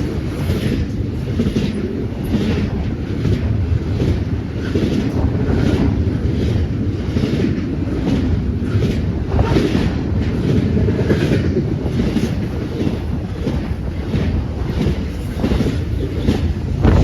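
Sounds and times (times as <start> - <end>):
train rumbling past: 0.0 - 17.0
train wheel clatter: 0.0 - 17.0
wind buffeting microphone: 0.0 - 17.0.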